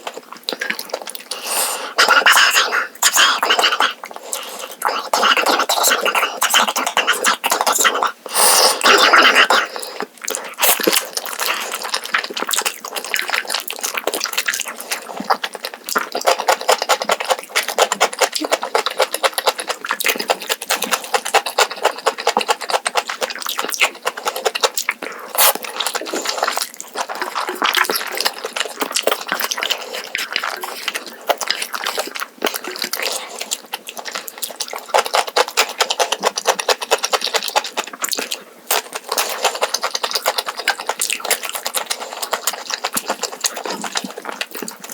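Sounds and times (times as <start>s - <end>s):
wet slurping and chewing: 0.0s - 44.9s
mouth clicks and smacks: 0.5s - 44.9s.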